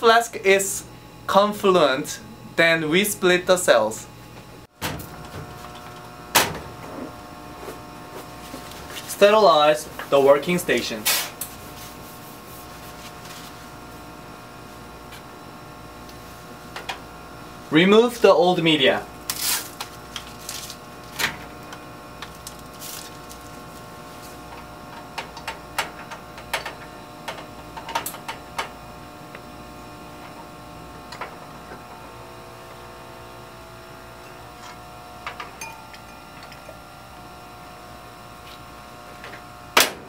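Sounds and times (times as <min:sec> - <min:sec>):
cabinet blower hum: 0:04.3 - 0:40.0.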